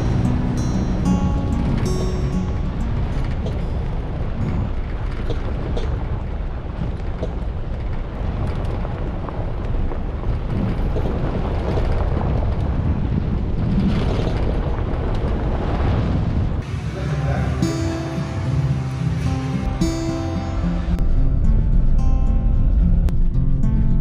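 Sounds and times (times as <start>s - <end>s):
tyres rumbling on gravel: 0.0s - 21.0s
wind buffeting microphone: 0.0s - 24.0s.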